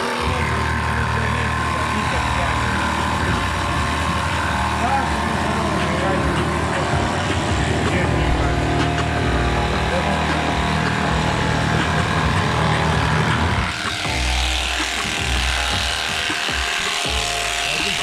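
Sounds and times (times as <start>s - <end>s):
electric shears clipping fleece: 0.0s - 18.0s.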